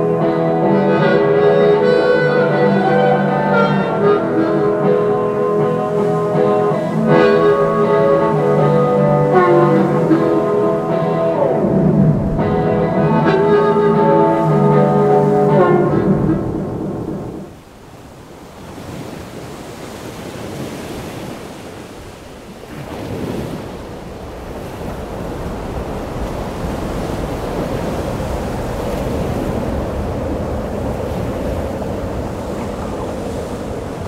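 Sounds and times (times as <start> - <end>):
wind on microphone: 0.0 - 17.6, 22.7 - 34.0
ocean surf on a beach: 0.0 - 34.0.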